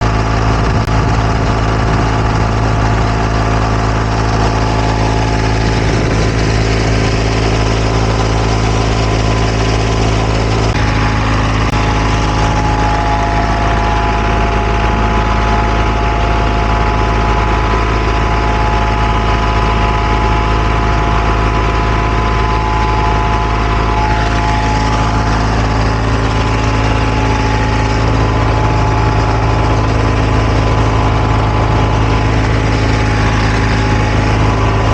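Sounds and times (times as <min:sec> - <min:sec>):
heavy diesel engine running: 0:00.0 - 0:34.9
multi-tone machine whine: 0:00.0 - 0:34.9.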